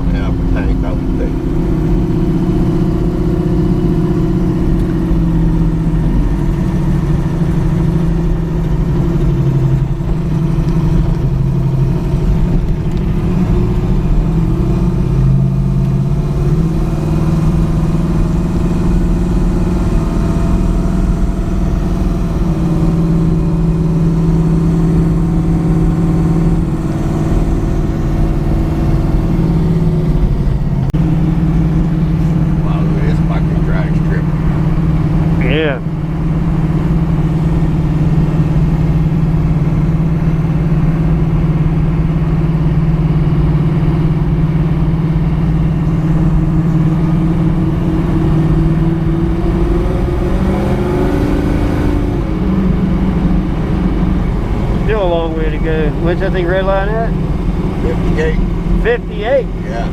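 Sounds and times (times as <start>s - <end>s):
car engine cruising: 0.0s - 59.9s
road noise: 0.0s - 59.9s.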